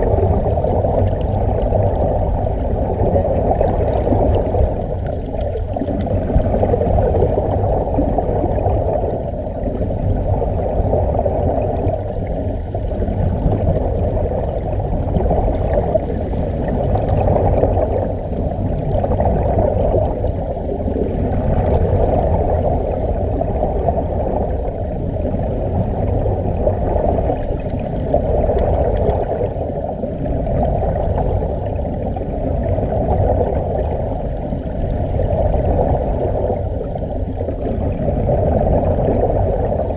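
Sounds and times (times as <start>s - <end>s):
muffled underwater rush of bubbles: 0.0s - 39.9s.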